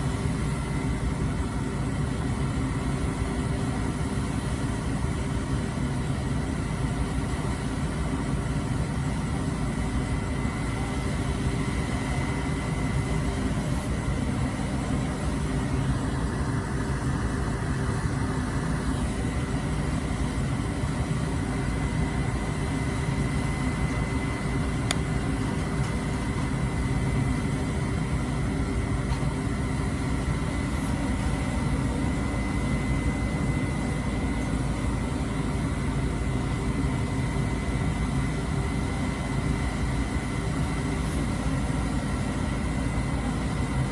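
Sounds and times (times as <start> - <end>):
faint high whine: 0.0 - 43.9
truck engine running: 0.0 - 43.9.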